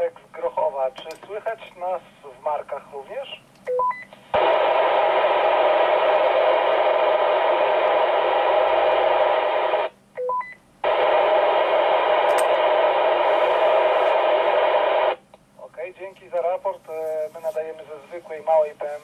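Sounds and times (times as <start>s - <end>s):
radio static hiss: 0.0s - 3.4s, 4.2s - 10.0s, 10.8s - 19.0s.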